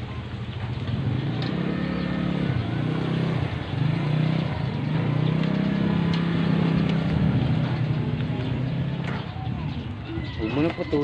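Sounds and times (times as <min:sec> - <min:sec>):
small motorcycle engine running: 0:00.1 - 0:09.8.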